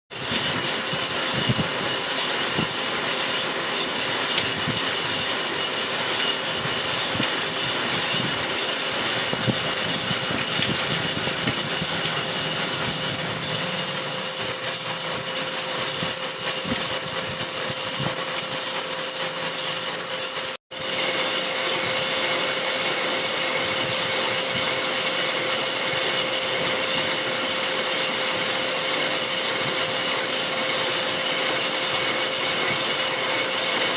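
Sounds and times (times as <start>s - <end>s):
lathe machine running: 0.1s - 33.9s
metal lathe cutting whine: 0.1s - 33.9s.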